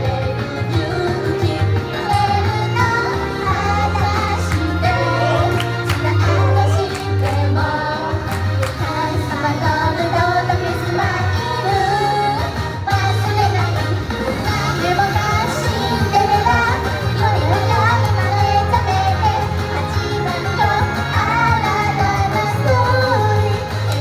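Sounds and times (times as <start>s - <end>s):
pop song with female voices: 0.0s - 24.0s
steady bass line: 0.0s - 24.0s.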